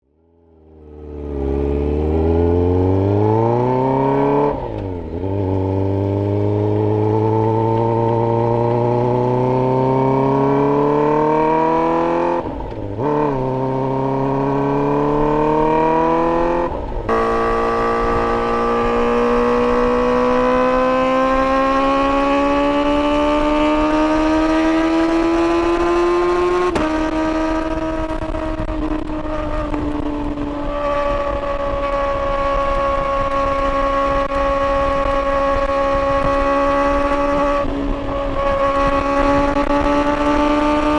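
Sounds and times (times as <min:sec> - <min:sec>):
motorcycle engine accelerating: 0:00.2 - 0:40.9.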